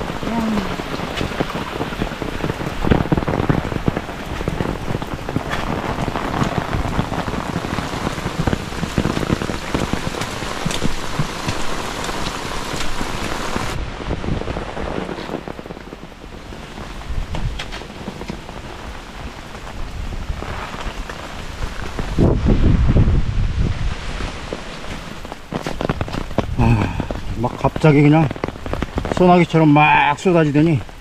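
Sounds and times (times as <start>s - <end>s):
heavy rain pouring: 0.0s - 31.0s.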